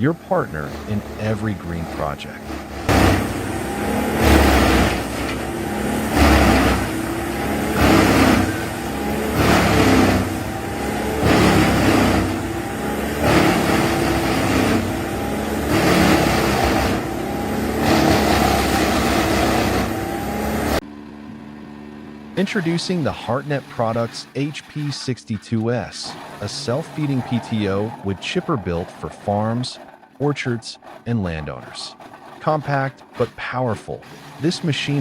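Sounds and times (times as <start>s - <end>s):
drum chewing into wood: 0.0s - 20.8s, 22.4s - 35.0s
wood chipper engine straining: 0.0s - 35.0s.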